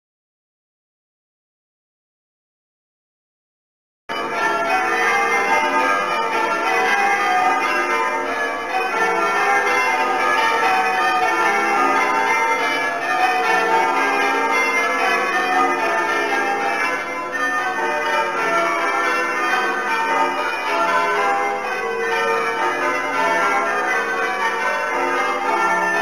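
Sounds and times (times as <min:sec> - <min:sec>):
church bells ringing changes: 0:04.1 - 0:26.0.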